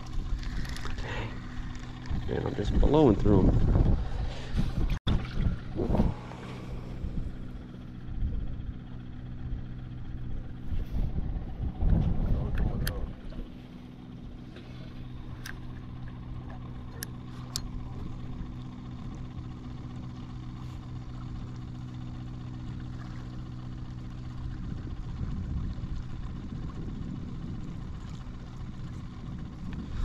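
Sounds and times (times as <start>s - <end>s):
engine idling: 0.0s - 30.0s
wind rumble on microphone: 0.0s - 30.0s.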